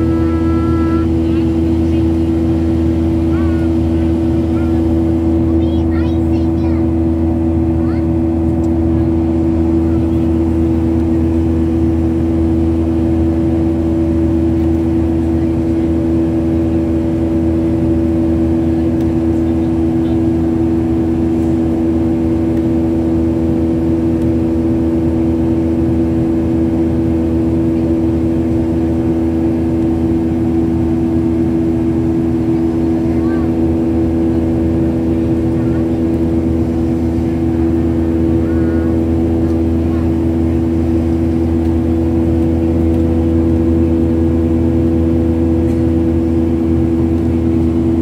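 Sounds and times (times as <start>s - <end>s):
airliner engine drone: 0.0s - 48.0s.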